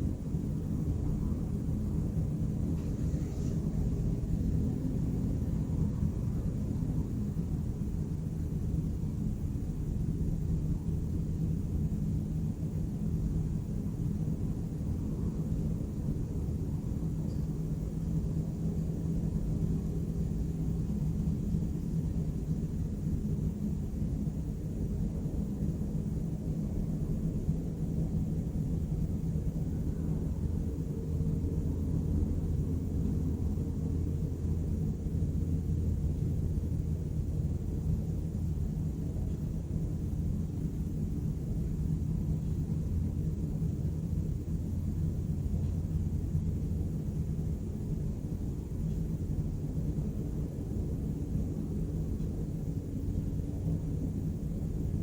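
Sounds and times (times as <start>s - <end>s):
faint hum: 0.0s - 55.0s
low rumble of traffic: 0.0s - 55.0s.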